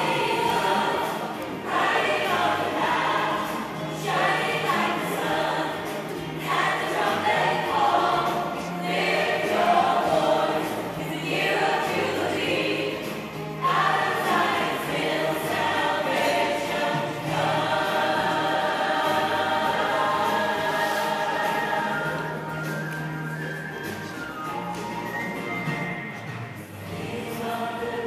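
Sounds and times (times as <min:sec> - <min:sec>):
gospel choir singing: 0:00.0 - 0:23.1, 0:26.6 - 0:28.0.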